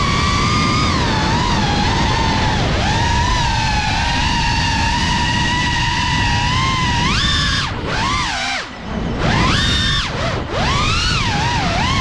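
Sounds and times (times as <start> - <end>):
drone propellers whining: 0.0 - 12.0
wind rumble: 0.0 - 12.0.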